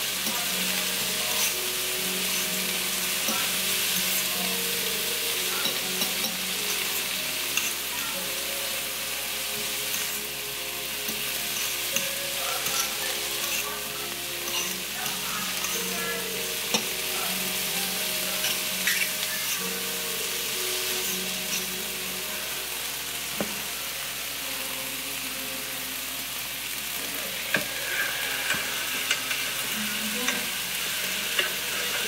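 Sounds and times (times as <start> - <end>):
peppers sizzling in a frying pan: 0.0 - 32.0.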